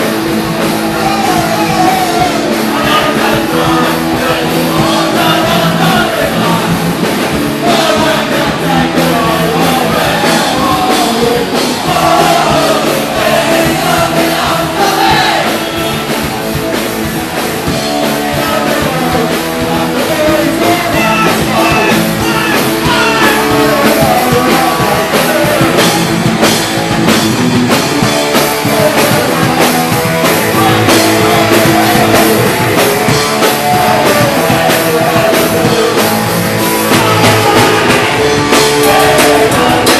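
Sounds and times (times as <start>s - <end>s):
person singing: 0.0s - 26.5s, 27.8s - 39.9s
drums: 0.0s - 39.9s
electric guitars: 0.0s - 39.9s
punk rock band playing: 0.0s - 39.9s.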